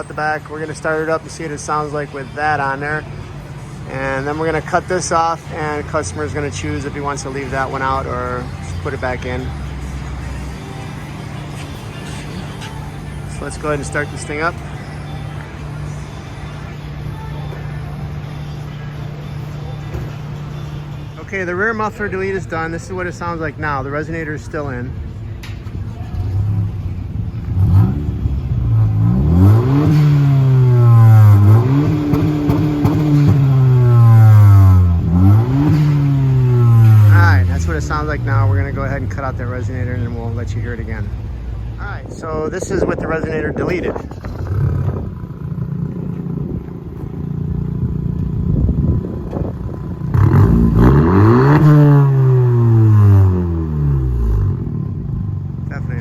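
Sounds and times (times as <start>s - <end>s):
car engine revving: 0.0s - 23.8s, 26.1s - 56.0s.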